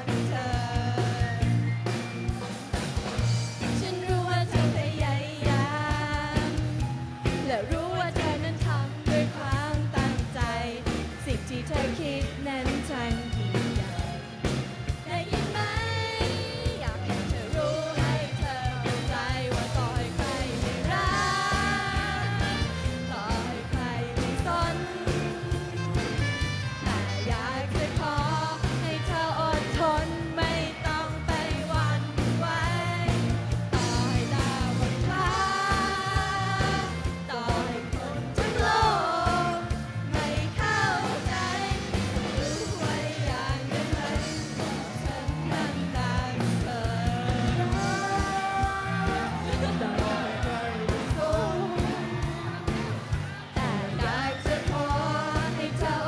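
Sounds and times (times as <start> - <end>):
sung vocals: 0.0 - 1.8, 3.6 - 14.3, 14.9 - 56.0
live pop-rock band: 0.0 - 56.0.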